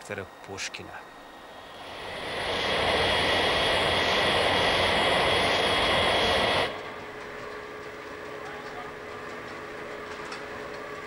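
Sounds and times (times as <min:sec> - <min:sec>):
jet airliner engines roaring: 0:00.0 - 0:11.0.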